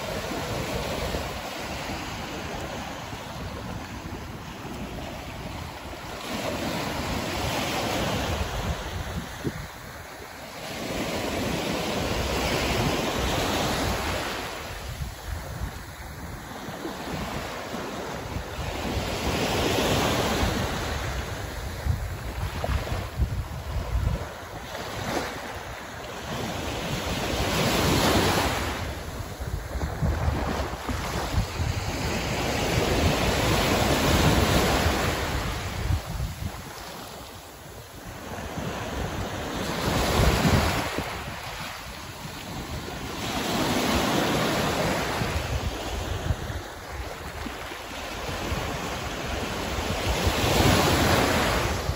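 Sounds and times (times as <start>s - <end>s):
small waves breaking on beach: 0.0s - 51.9s
wind rumbling on microphone: 0.0s - 51.9s.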